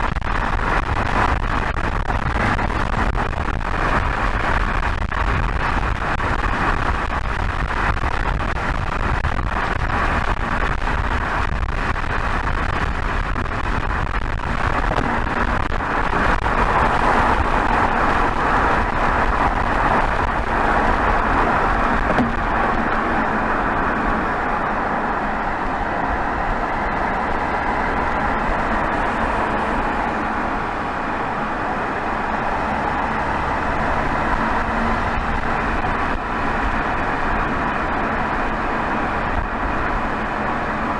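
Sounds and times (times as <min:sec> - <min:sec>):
diesel car exhaust cruising: 0:00.0 - 0:40.9
wind and tyre noise: 0:00.0 - 0:40.9.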